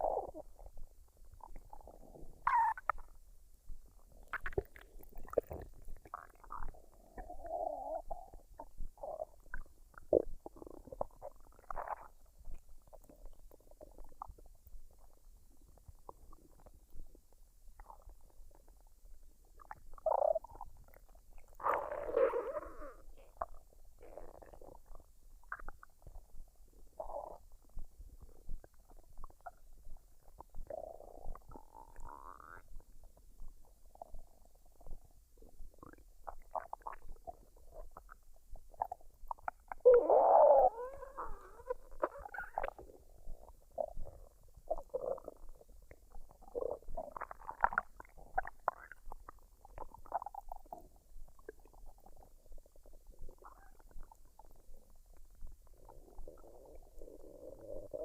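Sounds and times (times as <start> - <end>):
stomach gurgling: 0.0 - 58.0.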